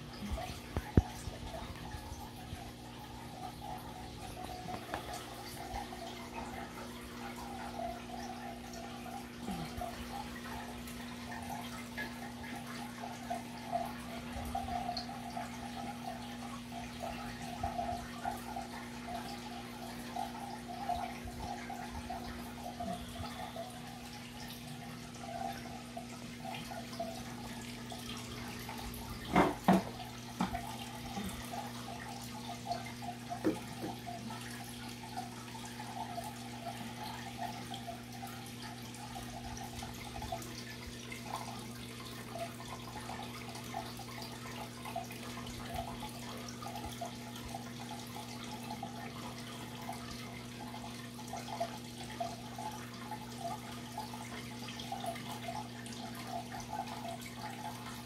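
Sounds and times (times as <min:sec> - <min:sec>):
low electrical hum: 0:00.0 - 0:58.0
water trickling and bubbling: 0:00.0 - 0:58.0.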